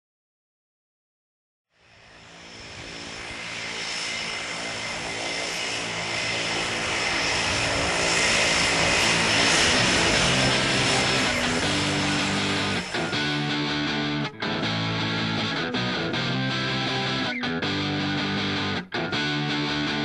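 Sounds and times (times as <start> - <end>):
propeller engine running: 1.8 - 20.0.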